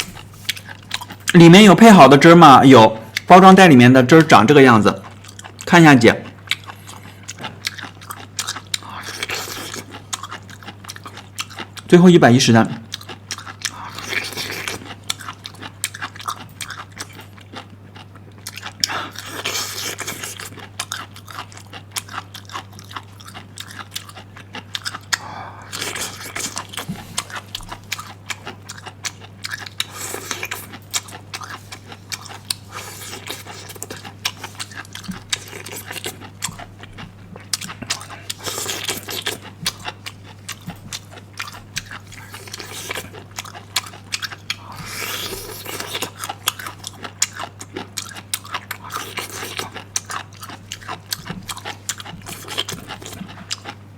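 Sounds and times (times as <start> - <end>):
chewing and crunching: 0.0 - 3.3, 4.7 - 53.9.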